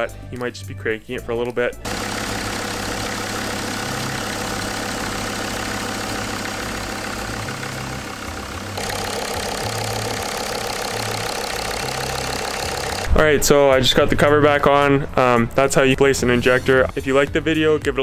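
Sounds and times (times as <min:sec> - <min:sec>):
diesel engine idling: 0:01.9 - 0:17.3.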